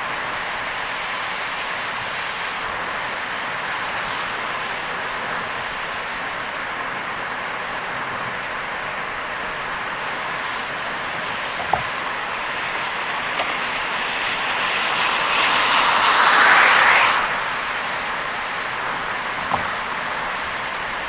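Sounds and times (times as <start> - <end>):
rain and tyres on wet road: 0.0 - 21.0.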